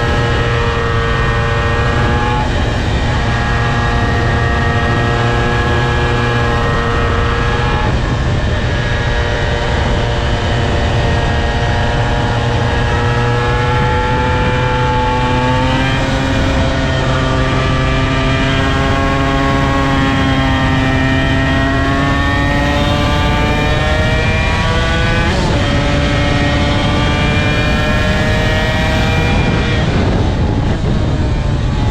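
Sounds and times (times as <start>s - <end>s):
motorcycle engine under load: 0.0s - 31.9s.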